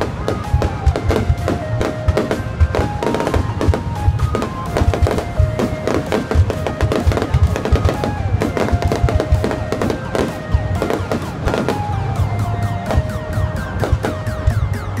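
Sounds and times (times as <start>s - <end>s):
fireworks bangs and crackles: 0.0s - 15.0s
music with held notes: 0.0s - 15.0s.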